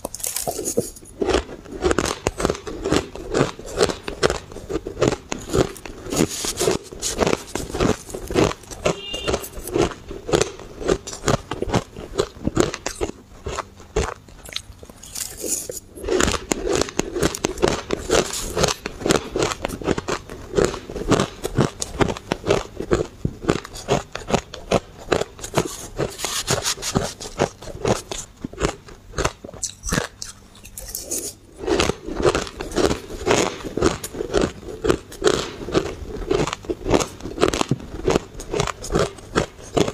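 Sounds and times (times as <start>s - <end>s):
mouth crunching shaved ice: 0.0s - 39.9s.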